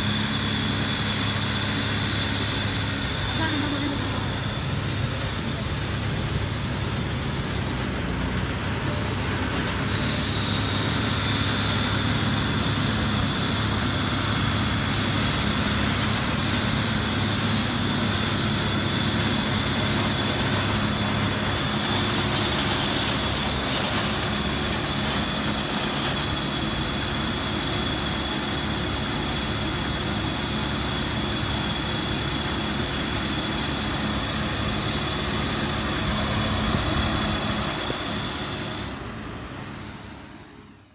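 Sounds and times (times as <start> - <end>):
steady high whine: 0.0 - 40.9
tractor running: 0.0 - 40.9.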